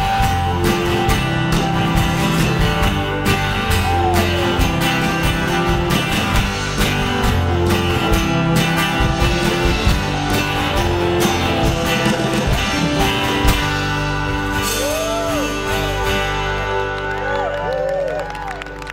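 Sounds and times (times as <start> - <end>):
drum strokes: 0.0 - 16.1
live rock band playing: 0.0 - 18.9.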